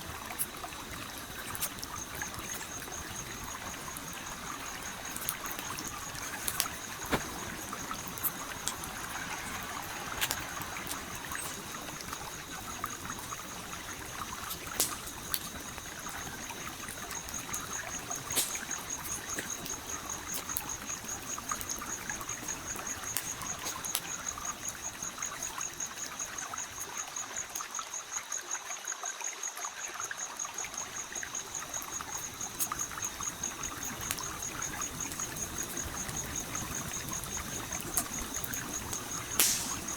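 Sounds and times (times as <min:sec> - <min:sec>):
campfire popping: 0:00.0 - 0:27.7, 0:30.4 - 0:39.9
stream trickling: 0:00.0 - 0:39.9.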